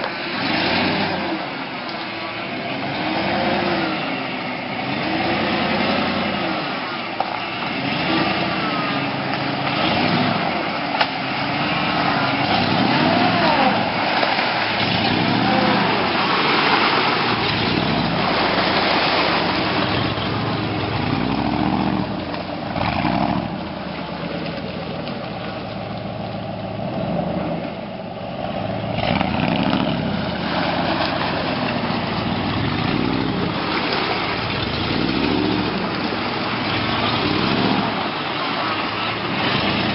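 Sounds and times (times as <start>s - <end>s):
engine revving: 0.0s - 25.2s, 26.5s - 39.9s.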